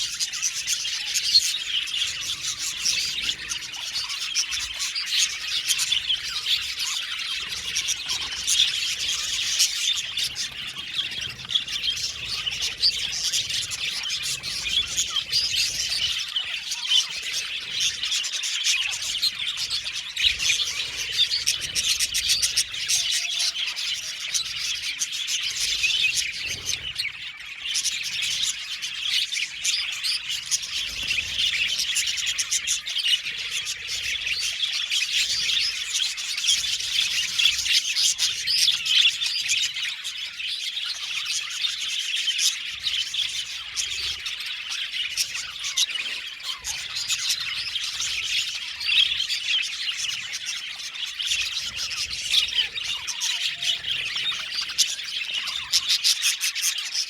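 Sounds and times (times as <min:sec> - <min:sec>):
budgies chattering: 0:00.0 - 0:57.0.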